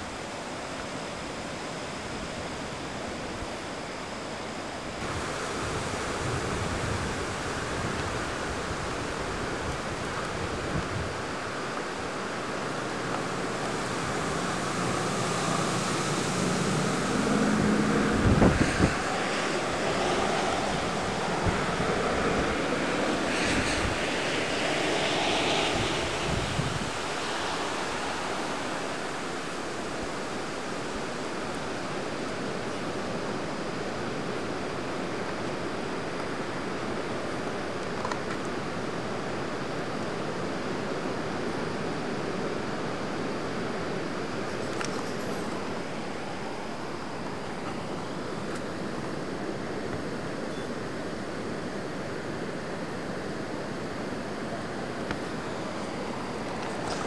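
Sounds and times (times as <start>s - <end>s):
wind gusting through trees: 0.0s - 57.0s.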